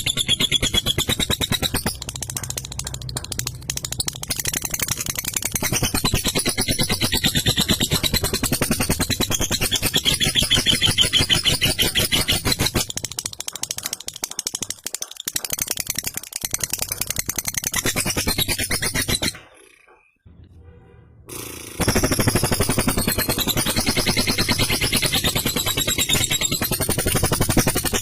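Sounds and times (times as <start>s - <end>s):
lovebird rattling chatter: 0.0s - 20.2s, 21.7s - 28.0s.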